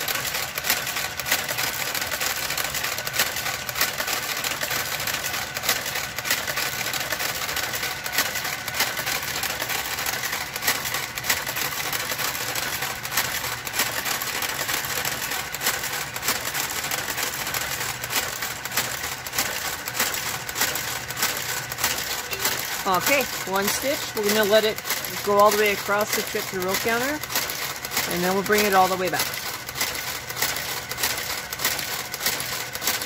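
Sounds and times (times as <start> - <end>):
knitting carriage clicks: 0.0 - 33.0
knitting machine motor whir: 0.0 - 33.0.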